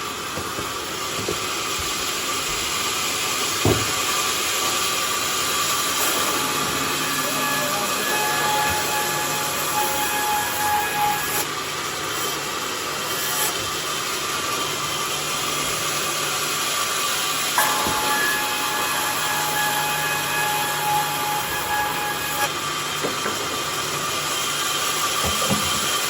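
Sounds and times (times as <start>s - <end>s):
saw rasping through log: 0.0s - 26.0s.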